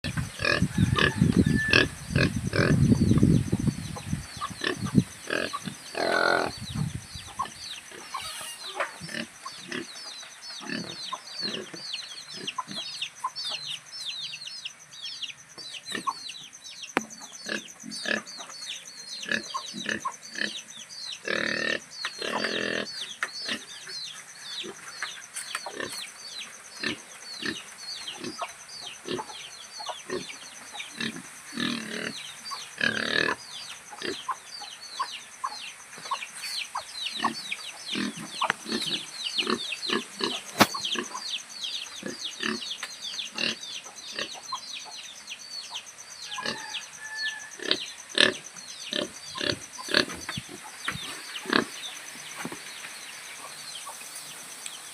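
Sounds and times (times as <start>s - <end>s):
pigs rumbling and calling: 0.0s - 13.4s, 17.2s - 24.0s, 24.6s - 44.6s, 46.3s - 52.7s.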